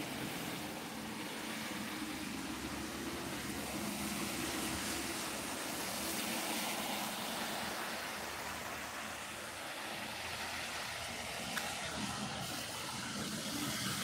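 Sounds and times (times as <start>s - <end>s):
faint engine hum: 0.0s - 14.0s
tyres hissing through water: 0.0s - 14.0s.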